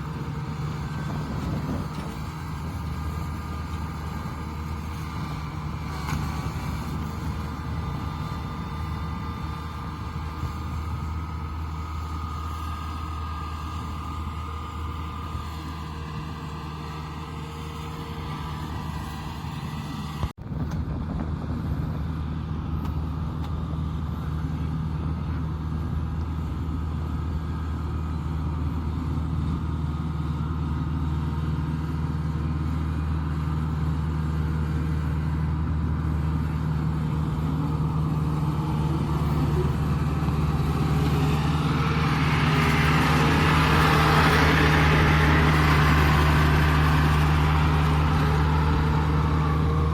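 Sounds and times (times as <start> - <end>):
combine harvester engine humming: 0.0 - 49.9.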